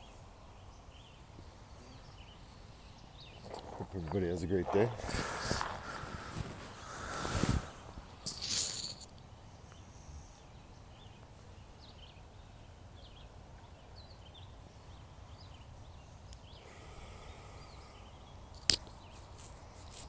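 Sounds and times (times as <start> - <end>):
soft hiss: 0.0 - 20.0.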